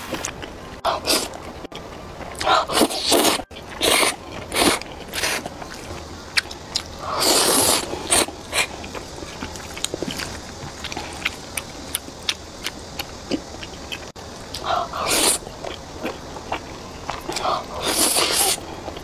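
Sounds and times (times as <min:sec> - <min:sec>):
noisy rush: 0:00.0 - 0:19.0
wet chewing clicks: 0:00.2 - 0:19.0.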